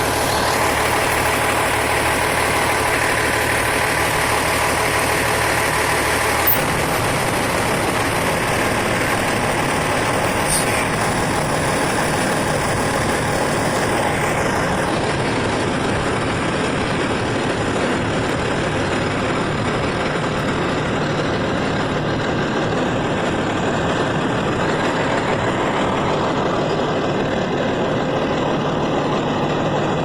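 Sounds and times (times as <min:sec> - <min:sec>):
large vehicle engine idling: 0:00.0 - 0:30.0.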